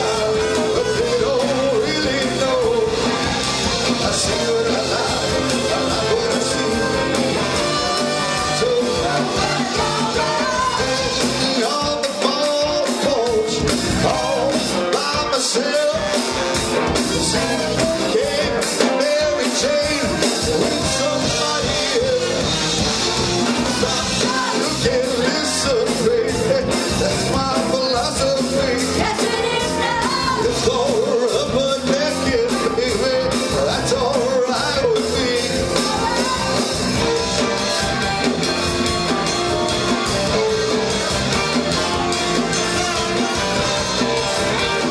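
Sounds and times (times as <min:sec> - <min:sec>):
person singing: 0:00.0 - 0:22.6, 0:23.6 - 0:38.3
drum kit beating: 0:00.0 - 0:44.9
electric guitar: 0:00.0 - 0:44.9.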